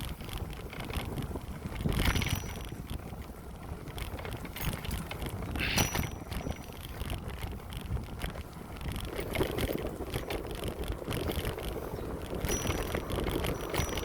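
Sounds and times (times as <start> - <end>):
bicycle road noise: 0.0 - 14.0
wind rushing over microphone: 0.0 - 14.0.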